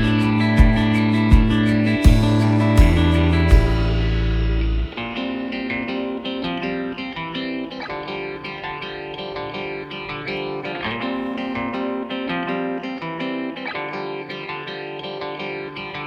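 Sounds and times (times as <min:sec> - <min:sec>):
picked guitar melody: 0:00.0 - 0:16.0.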